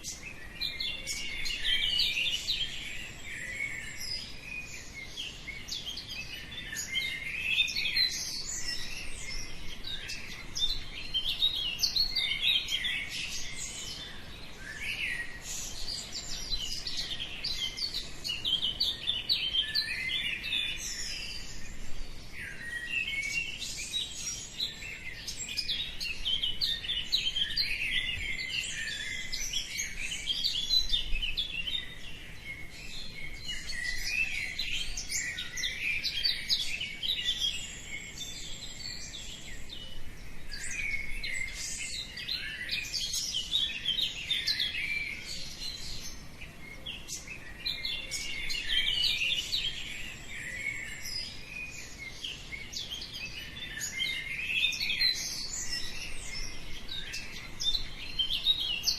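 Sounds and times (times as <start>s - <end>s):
birds chorus chirping: 0.0s - 58.9s.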